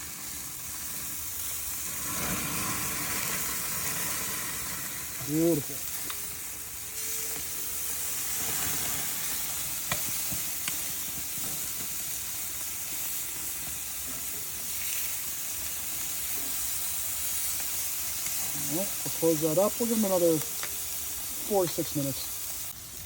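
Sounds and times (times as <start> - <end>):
meat sizzling on a grill: 0.0 - 23.0.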